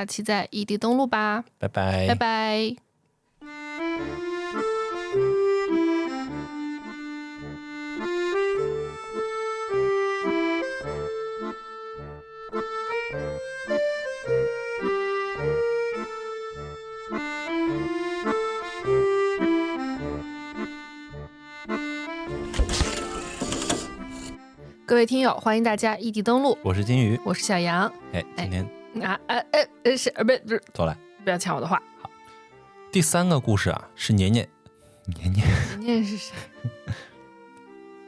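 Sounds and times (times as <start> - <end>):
accordion music: 1.7 - 2.7, 3.4 - 38.0.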